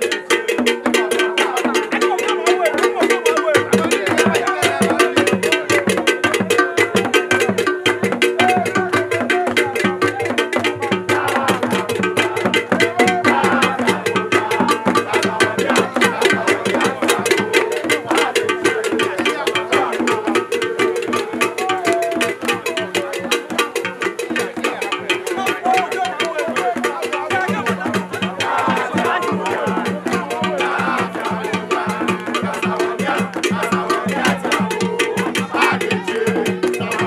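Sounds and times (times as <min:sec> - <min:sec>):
drums: 0:00.0 - 0:37.0.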